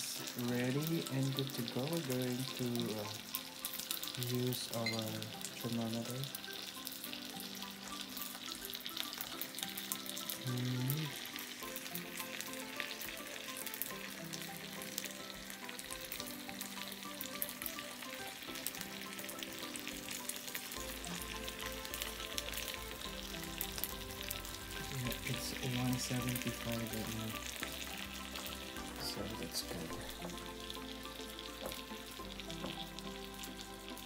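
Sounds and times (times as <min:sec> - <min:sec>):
fat sizzling and crackling: 0:00.0 - 0:34.0
soft background music: 0:00.0 - 0:34.0.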